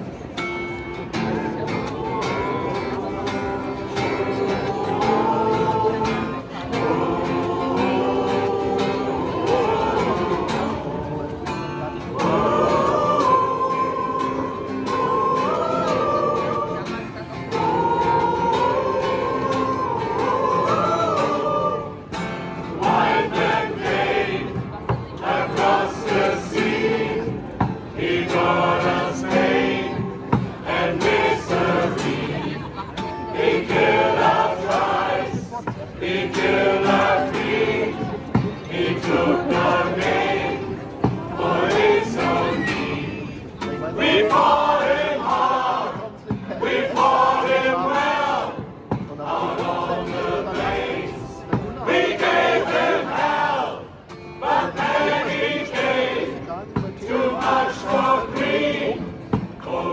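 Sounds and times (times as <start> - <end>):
choir singing in harmony: 1.4 - 59.9.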